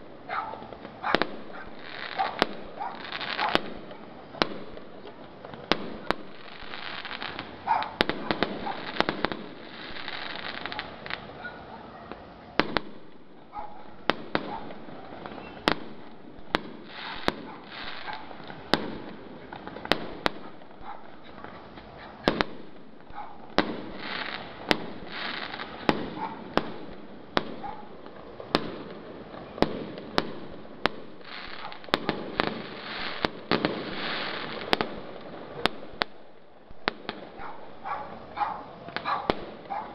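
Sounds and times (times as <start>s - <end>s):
fireworks bursting bangs: 0.0s - 11.5s, 12.1s - 39.9s.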